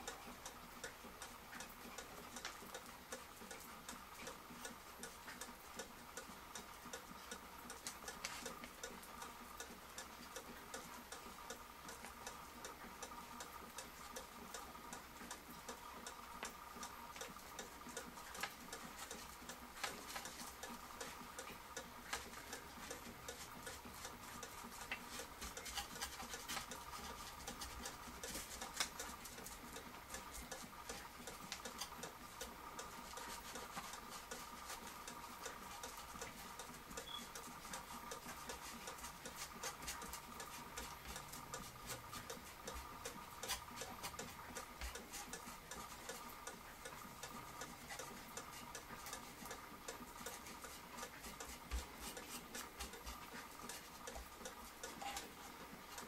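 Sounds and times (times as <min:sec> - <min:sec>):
light clicks and ticks: 0:00.0 - 0:56.0.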